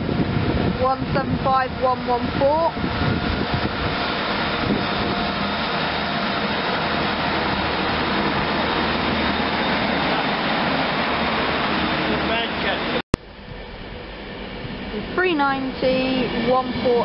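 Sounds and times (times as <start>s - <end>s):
diesel engine drone: 0.0s - 17.0s
wheel-on-rail noise: 0.0s - 17.0s.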